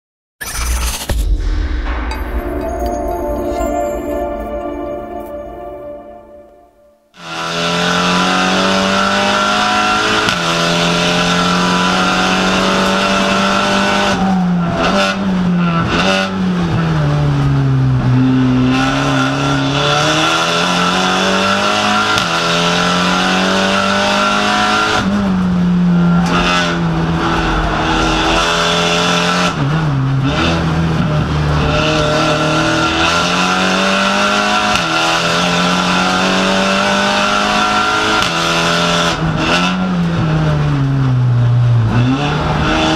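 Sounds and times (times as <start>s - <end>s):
race car engine at high revs: 7.2s - 42.9s.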